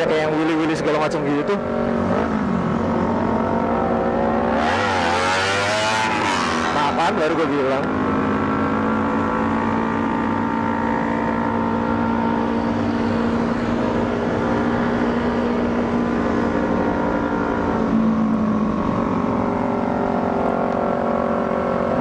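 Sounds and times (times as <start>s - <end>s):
motor scooter engine cruising: 0.0s - 22.0s.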